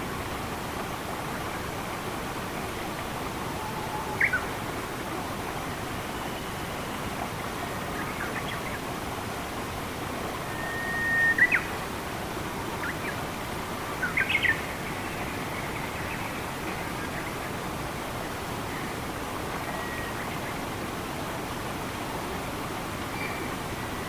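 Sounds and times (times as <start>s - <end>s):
flowing water: 0.0s - 24.0s.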